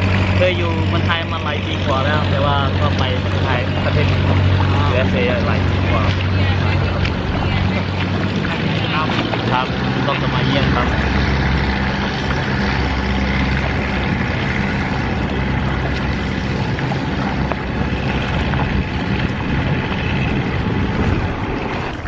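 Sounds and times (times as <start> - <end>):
motorboat engine humming: 0.0 - 22.0
water noise: 0.0 - 22.0
wind rushing: 3.6 - 22.0.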